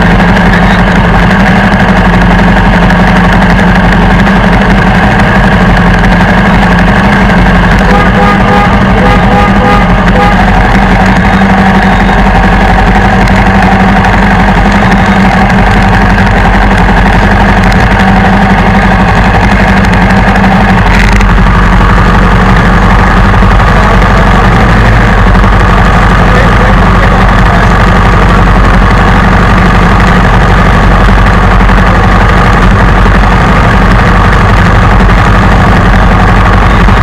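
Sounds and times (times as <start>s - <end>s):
motorbike engine idling: 0.0s - 37.0s.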